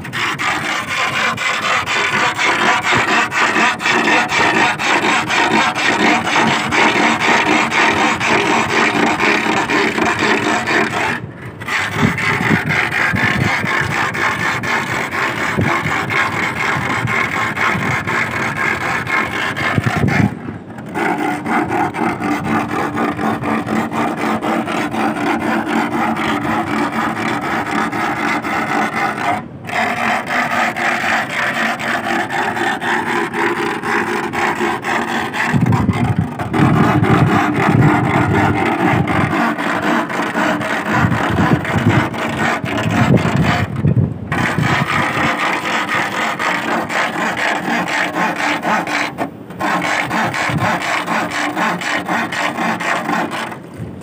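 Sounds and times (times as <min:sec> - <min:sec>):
steel rod scraping wooden stake: 0:00.0 - 0:54.0.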